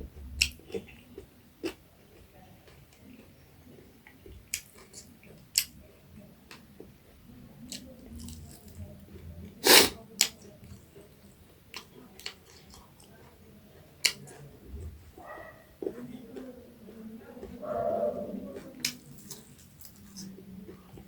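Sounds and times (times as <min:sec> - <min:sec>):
chewing crispy fried fish: 0:00.2 - 0:14.6, 0:15.2 - 0:21.0.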